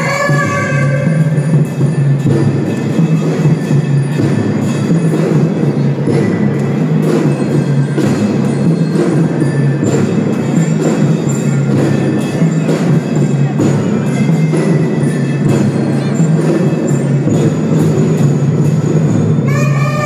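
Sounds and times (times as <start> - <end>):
bell lyra notes: 0.0 - 20.0
drum strokes: 0.0 - 20.0.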